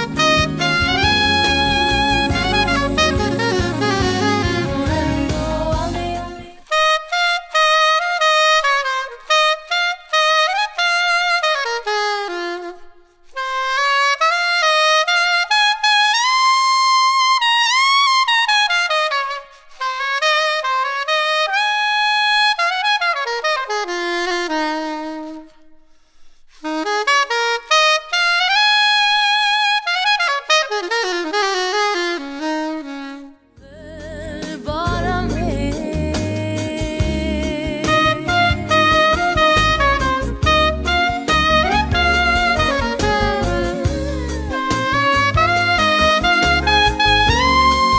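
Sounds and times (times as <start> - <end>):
soprano saxophone melody: 0.0 - 47.9.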